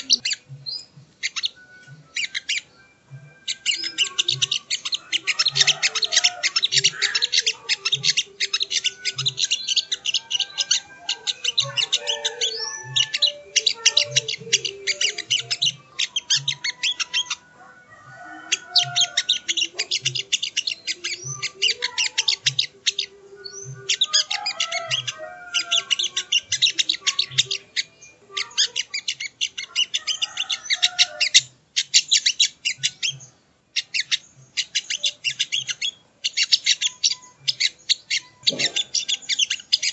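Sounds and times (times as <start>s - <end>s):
bird high chipping calls: 0.0s - 17.5s, 18.2s - 39.9s.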